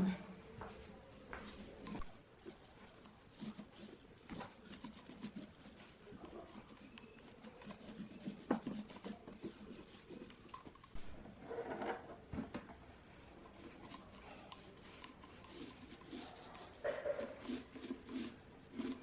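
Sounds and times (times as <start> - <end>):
hands rubbing and scraping: 0.6 - 11.0, 13.0 - 19.0.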